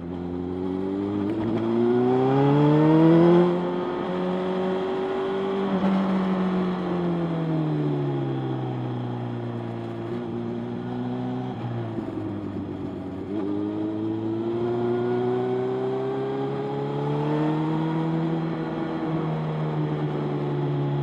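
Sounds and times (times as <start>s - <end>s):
motorcycle engine: 0.0s - 21.0s.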